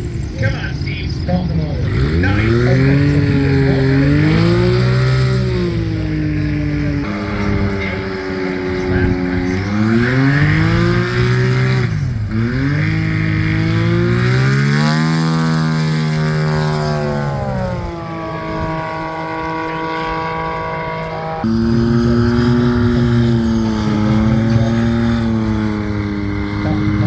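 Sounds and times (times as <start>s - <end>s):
propeller airplane engine revving: 0.0s - 27.0s.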